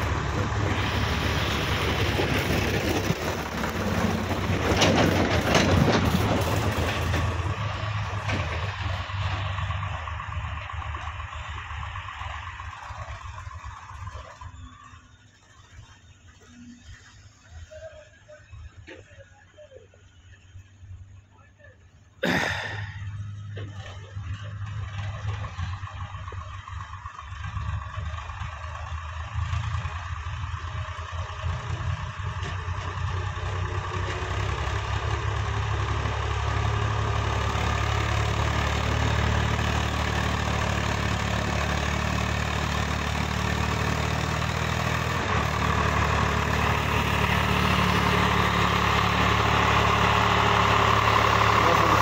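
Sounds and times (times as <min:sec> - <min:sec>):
diesel tractor engine running: 0:00.0 - 0:52.0.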